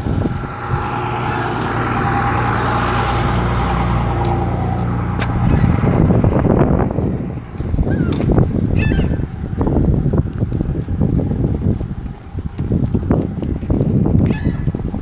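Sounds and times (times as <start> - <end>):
engine running with steady hum: 0.0 - 15.0.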